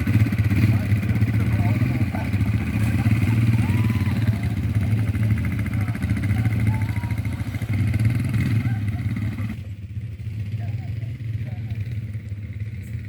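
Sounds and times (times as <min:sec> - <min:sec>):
quad bike engine droning: 0:00.0 - 0:13.0.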